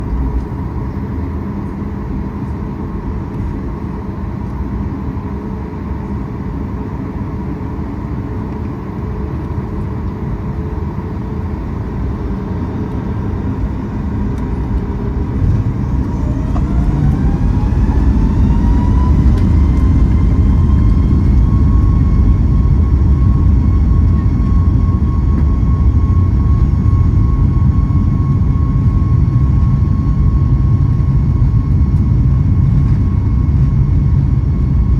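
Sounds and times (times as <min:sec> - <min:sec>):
jet engine rising whine: 0:00.0 - 0:34.9
jet engine rumble: 0:00.0 - 0:34.9.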